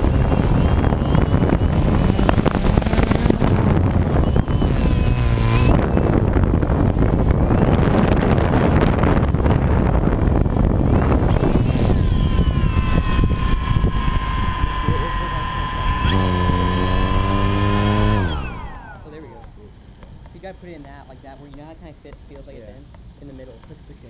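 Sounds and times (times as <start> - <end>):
drone propellers whirring: 0.0 - 20.4
wind buffeting microphone: 0.0 - 22.7
wavering whine: 0.0 - 23.4.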